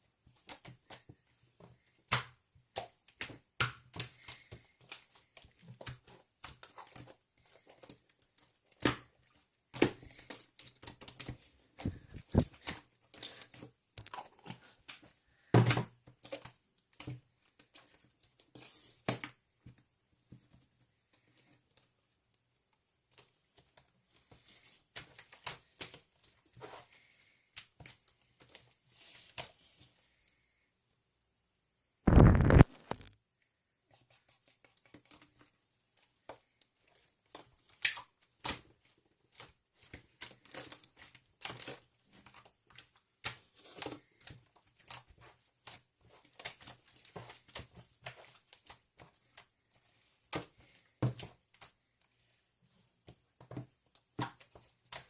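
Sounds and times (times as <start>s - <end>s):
handling clicks taps and crinkling: 0.2s - 30.4s, 33.9s - 55.0s.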